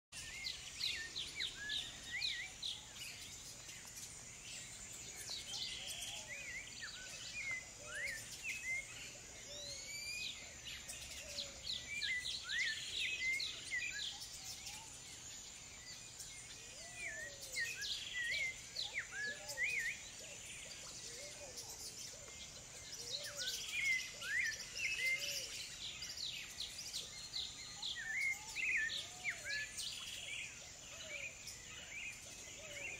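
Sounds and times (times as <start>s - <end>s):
birds chirping and whistling: 0.2s - 32.9s.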